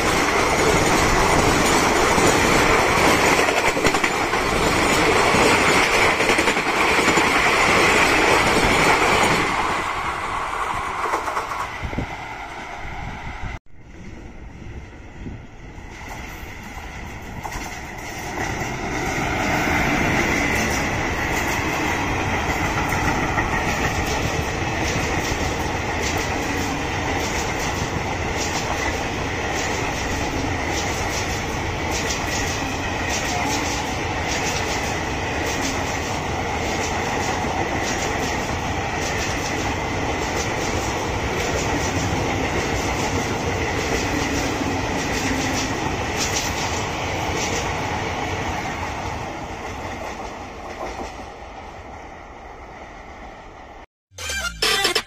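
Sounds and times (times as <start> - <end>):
passing train rumble: 0.0 - 53.8.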